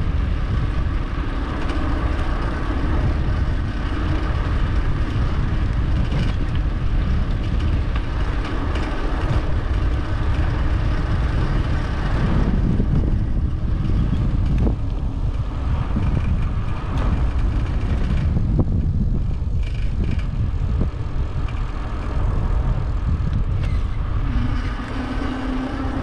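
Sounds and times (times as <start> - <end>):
steady low hum: 0.0 - 26.0
wind rumble on microphone: 0.0 - 26.0.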